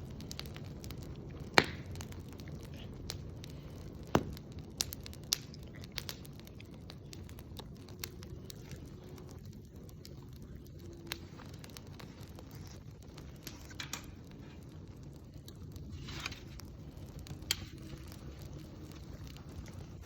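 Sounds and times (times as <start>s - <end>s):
campfire crackling and popping: 0.0s - 20.0s
low steady rush: 0.0s - 20.0s.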